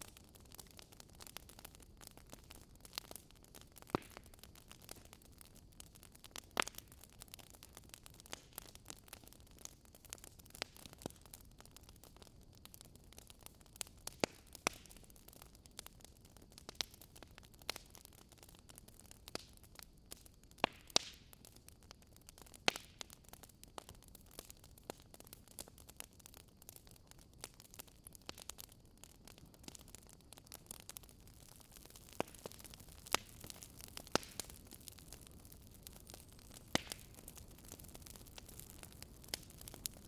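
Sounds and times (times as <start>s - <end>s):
campfire crackling and popping: 0.0s - 40.0s
faint steady hiss: 0.0s - 40.0s.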